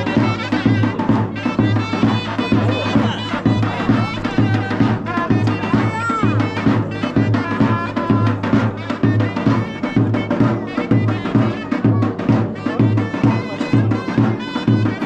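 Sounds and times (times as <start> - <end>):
folk melody: 0.0 - 15.0
steady drum beat: 0.0 - 15.0.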